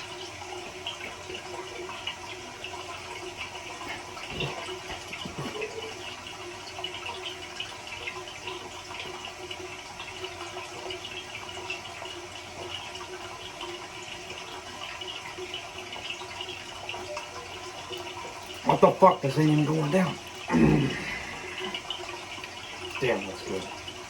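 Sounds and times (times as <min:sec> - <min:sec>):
running gurgling liquid: 0:00.0 - 0:24.0.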